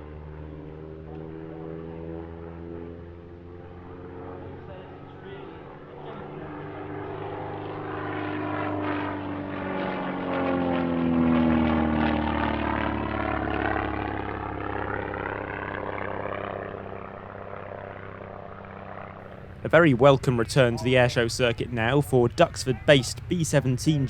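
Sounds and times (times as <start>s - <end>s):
propeller aircraft flying past: 0.0s - 24.0s.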